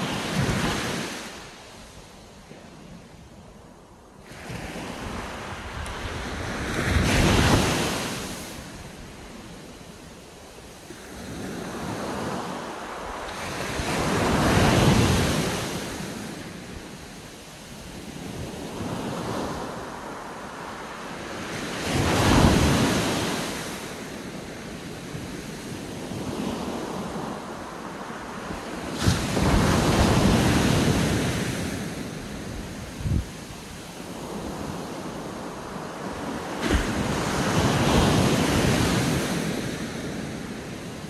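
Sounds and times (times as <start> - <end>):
small waves breaking on beach: 0.0 - 41.0.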